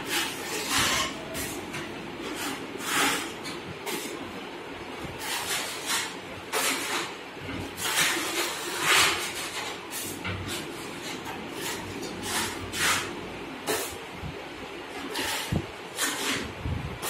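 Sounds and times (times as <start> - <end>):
putty blade scraping wall: 0.0 - 4.2, 5.1 - 14.0, 14.9 - 16.5.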